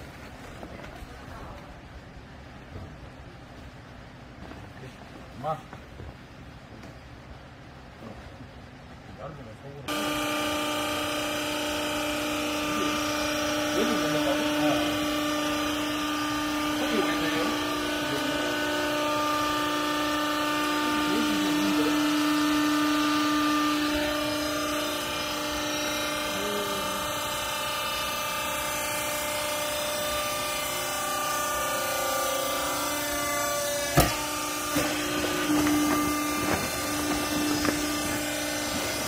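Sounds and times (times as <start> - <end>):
hydraulic unit humming: 0.0 - 39.0.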